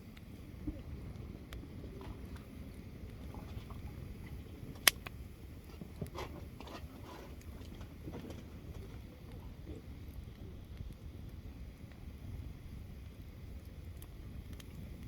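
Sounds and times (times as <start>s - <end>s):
campfire crackling and popping: 0.0s - 6.6s, 7.4s - 15.0s
low steady rumble: 0.0s - 15.0s.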